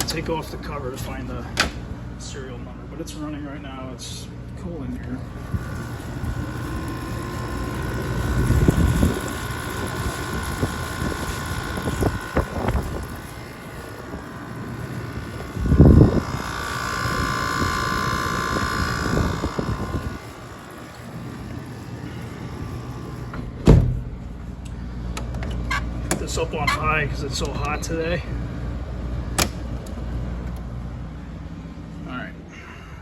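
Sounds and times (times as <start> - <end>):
air conditioner humming with whine: 0.0 - 33.0.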